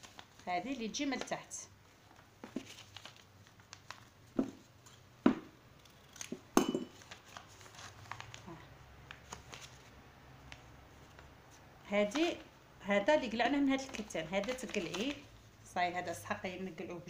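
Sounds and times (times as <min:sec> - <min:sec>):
paper handled over fabric: 0:00.0 - 0:05.0, 0:06.0 - 0:12.5, 0:13.2 - 0:16.1.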